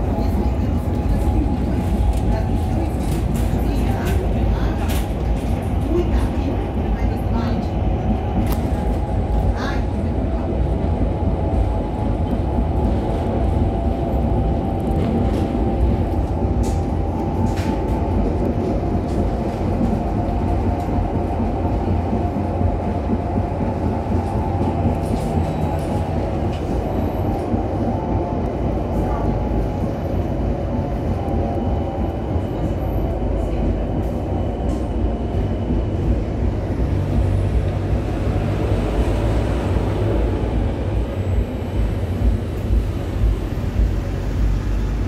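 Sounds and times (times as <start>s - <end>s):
steel wheels rumbling on rails: 0.0s - 45.0s.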